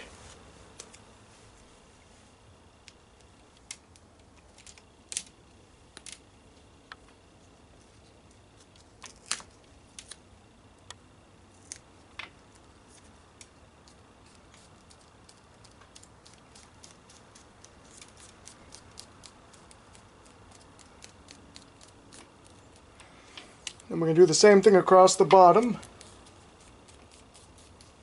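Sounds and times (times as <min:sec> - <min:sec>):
duct tape crackling: 0:02.7 - 0:28.0.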